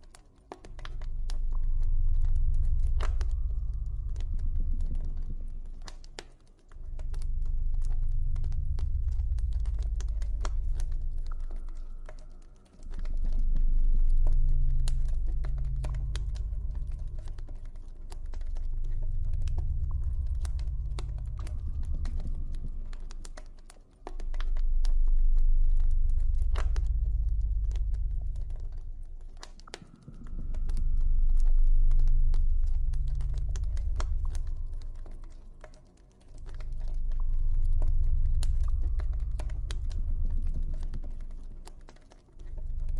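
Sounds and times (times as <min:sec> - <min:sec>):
deep ambient drone: 0:00.0 - 0:42.9.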